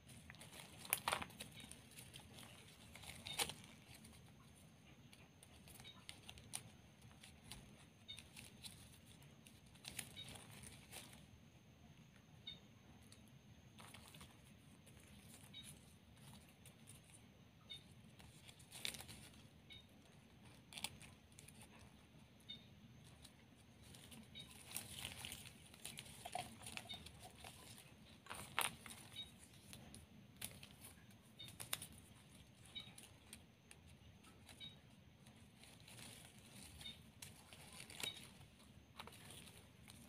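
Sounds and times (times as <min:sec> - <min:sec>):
plastic ribbon rustling and crinkling: 0:00.0 - 0:11.3, 0:13.8 - 0:22.2, 0:22.9 - 0:40.0.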